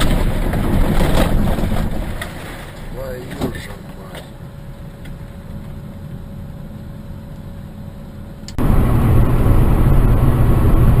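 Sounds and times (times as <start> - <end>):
car engine and road noise: 0.0 - 11.0
heavy rumble: 0.0 - 11.0.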